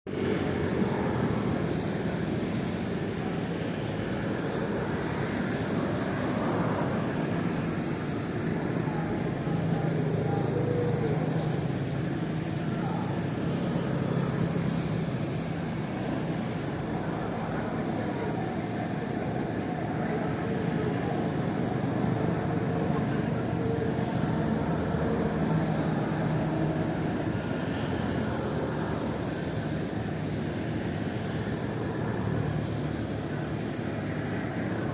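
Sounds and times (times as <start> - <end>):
ferry engine drone: 0.1 - 34.9.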